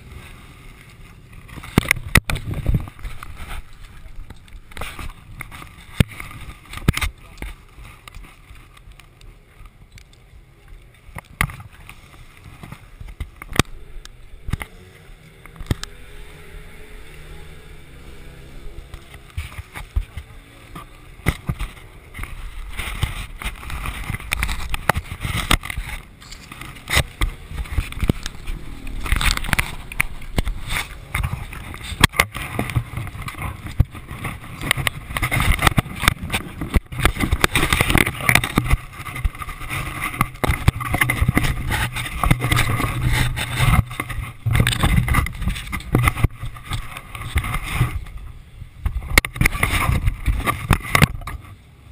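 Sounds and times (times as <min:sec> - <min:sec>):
wind rumble: 0:00.0 - 0:10.5, 0:11.3 - 0:51.9
muffled motorcycle engine: 0:00.0 - 0:51.9.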